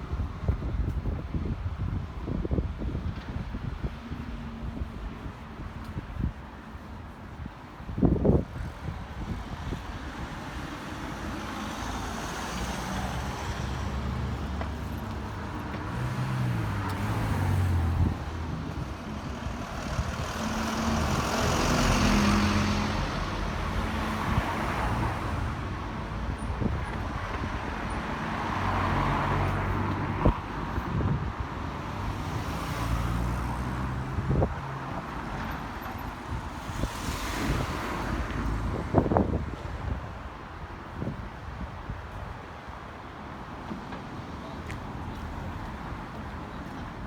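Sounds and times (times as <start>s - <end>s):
passing vehicles: 0.0s - 47.0s.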